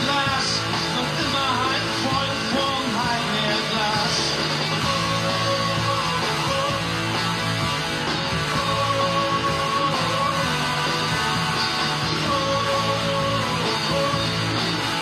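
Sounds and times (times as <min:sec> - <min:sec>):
electric guitar melody: 0:00.0 - 0:15.0
instrumental rock music: 0:00.0 - 0:15.0.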